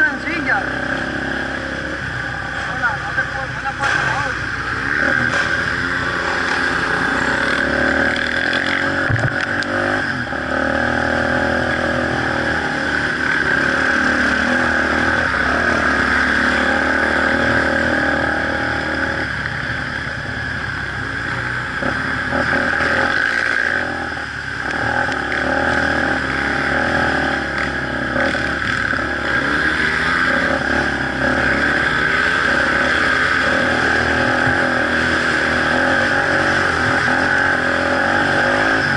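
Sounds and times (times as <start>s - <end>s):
off-road vehicle engine revving: 0.0s - 20.2s, 21.2s - 38.9s.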